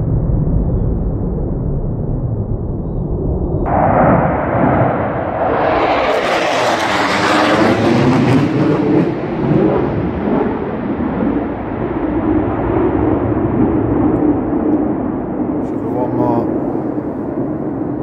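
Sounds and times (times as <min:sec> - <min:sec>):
jet engines roaring overhead: 0:00.0 - 0:18.0.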